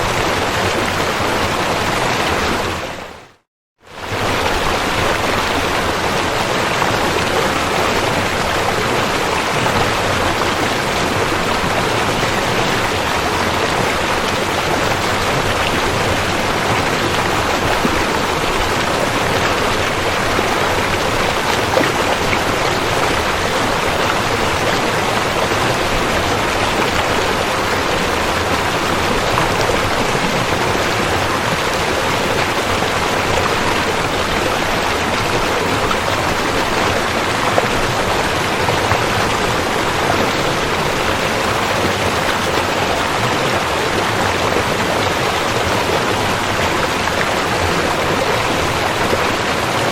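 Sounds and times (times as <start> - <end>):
river flowing: 0.0 - 49.9.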